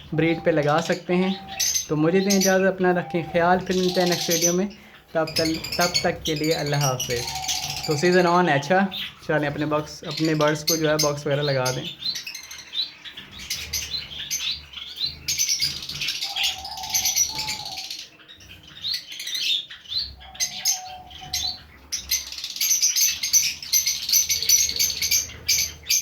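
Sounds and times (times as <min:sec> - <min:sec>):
sparrows chirping: 0:00.0 - 0:26.0.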